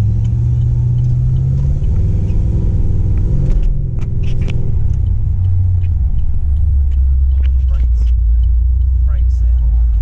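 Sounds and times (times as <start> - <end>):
car engine driving: 0.0 - 10.0
road rumble: 0.0 - 10.0.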